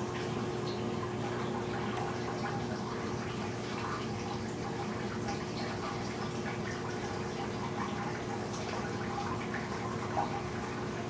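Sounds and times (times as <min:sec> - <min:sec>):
aquarium pump hum: 0:00.0 - 0:11.0
small drips and bubbles: 0:00.0 - 0:11.0
trickling water: 0:00.0 - 0:11.0.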